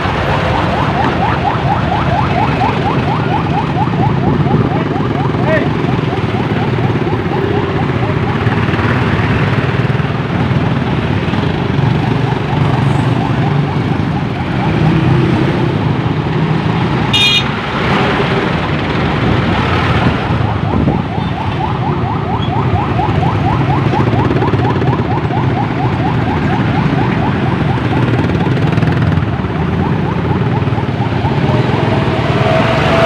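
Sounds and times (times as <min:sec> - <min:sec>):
dense road traffic: 0:00.0 - 0:33.0.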